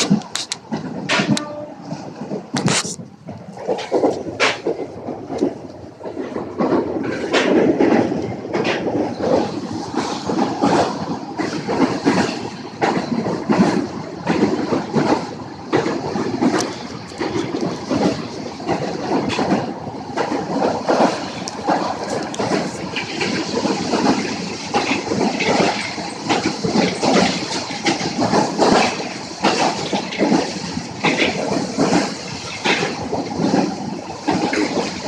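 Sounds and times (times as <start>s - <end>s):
train rumble: 0.0s - 35.0s
wheels clicking over rail joints: 0.0s - 35.0s.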